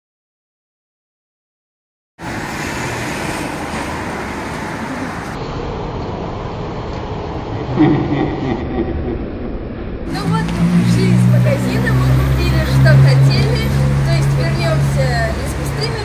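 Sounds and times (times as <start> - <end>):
street traffic noise: 2.2 - 16.0.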